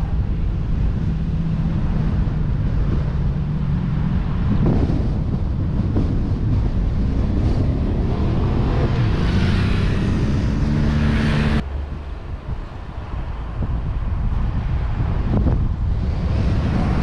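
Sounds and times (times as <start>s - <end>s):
car engine: 0.0s - 17.0s
road noise: 0.0s - 17.0s
wind noise: 0.0s - 17.0s.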